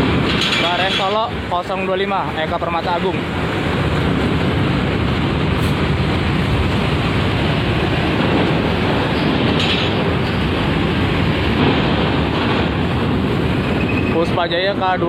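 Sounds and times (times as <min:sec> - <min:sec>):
buses driving past rumbling: 0:00.0 - 0:15.0
wind blowing on microphone: 0:00.0 - 0:15.0.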